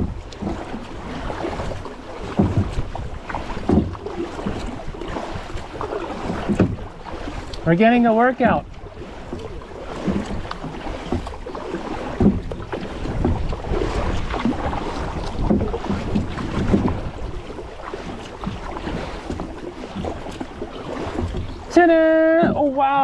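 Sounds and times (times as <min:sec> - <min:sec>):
paddle splashing in water: 0:00.0 - 0:23.0
wind rumbling on microphone: 0:00.0 - 0:23.0.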